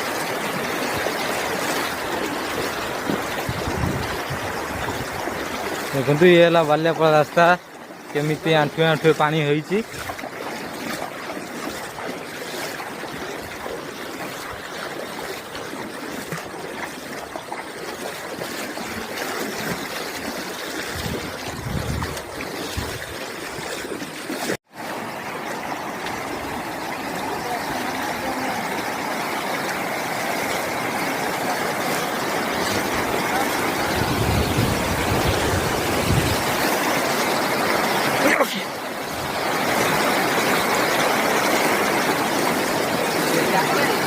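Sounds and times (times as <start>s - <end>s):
floodwater rushing across road: 0.0s - 44.0s.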